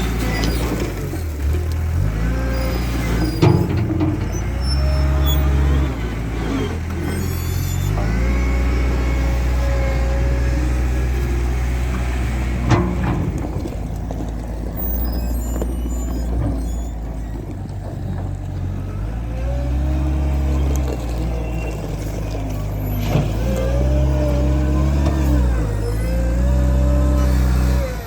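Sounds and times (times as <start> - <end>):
engine running and revving: 0.0 - 28.0.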